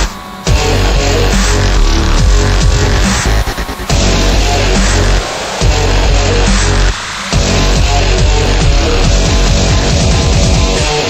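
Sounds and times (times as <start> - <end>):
backing music with heavy bass: 0.0 - 11.0
falling bass sweeps: 0.0 - 11.0.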